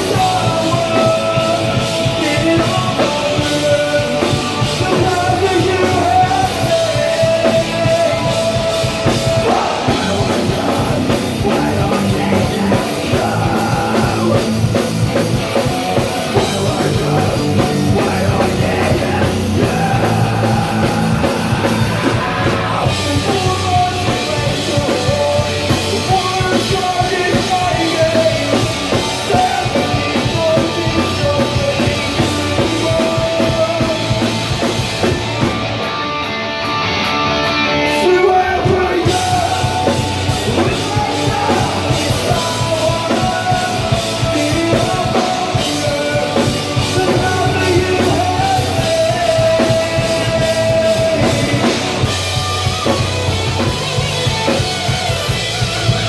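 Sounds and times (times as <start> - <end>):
person singing into a microphone: 0.0 - 34.7, 37.6 - 53.3
punk rock band playing: 0.0 - 56.0.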